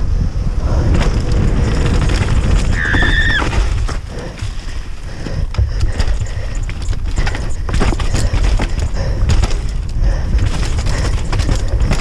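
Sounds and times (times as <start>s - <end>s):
wind rumbling on microphone: 0.0s - 12.0s
bike knocks and rattles: 0.7s - 12.0s.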